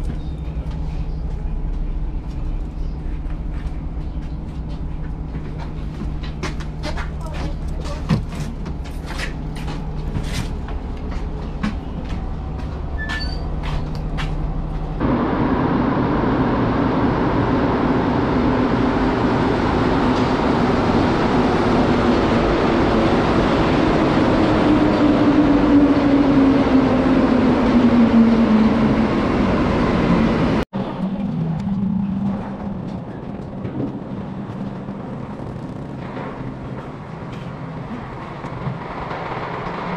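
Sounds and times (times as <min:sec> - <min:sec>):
metro train running in: 0:00.0 - 0:08.0, 0:09.6 - 0:39.9
rattles inside bus: 0:00.0 - 0:15.8, 0:16.7 - 0:39.9
bus engine hum: 0:00.0 - 0:39.9.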